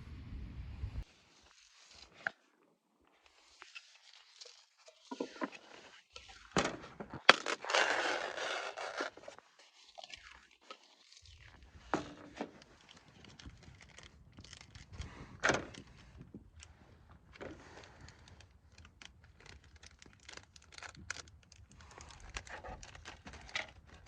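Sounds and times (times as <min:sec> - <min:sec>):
crinkling and scraping: 0:01.0 - 0:24.0.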